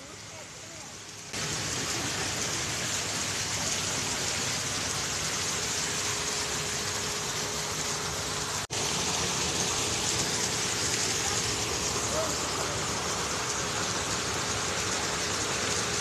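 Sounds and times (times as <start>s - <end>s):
fountain water splashing into pool: 0.0s - 16.0s.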